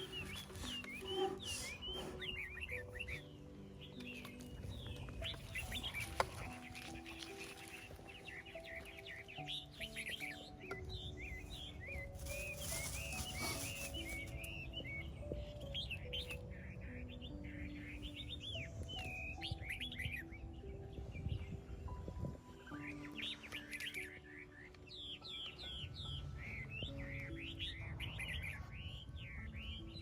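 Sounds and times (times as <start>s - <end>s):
birds chirping: 0.0s - 30.0s
slow background music: 0.0s - 30.0s.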